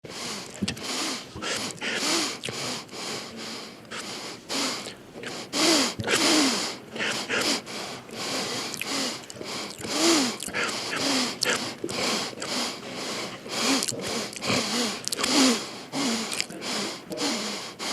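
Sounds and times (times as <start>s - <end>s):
man sniffing: 0.0s - 17.9s.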